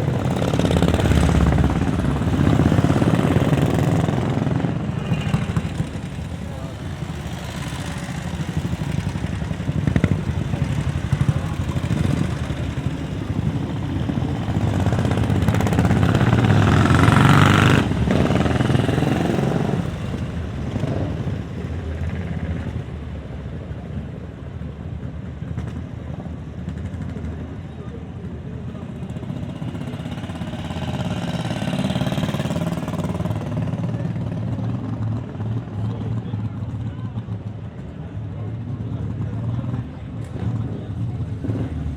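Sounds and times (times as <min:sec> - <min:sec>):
motorcycle engines passing: 0:00.0 - 0:41.9.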